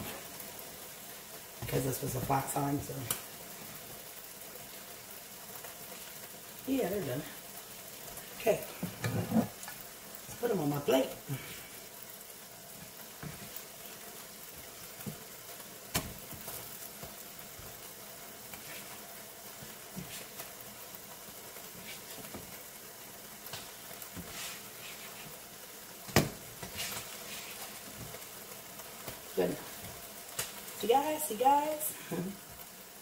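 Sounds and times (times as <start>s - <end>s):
pancakes sizzling on a griddle: 0.0s - 33.0s.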